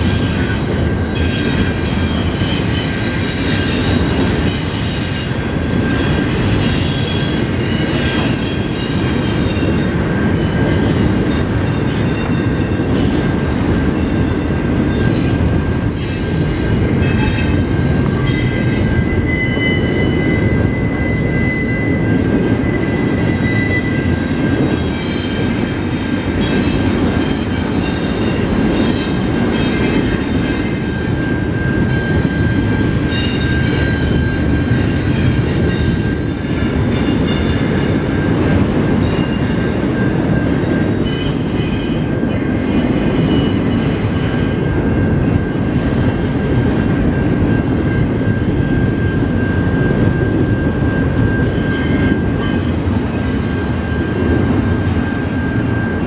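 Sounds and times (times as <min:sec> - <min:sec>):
high wheel squeal: 0:00.0 - 0:56.0
train wheels rumbling on rail: 0:00.0 - 0:56.0.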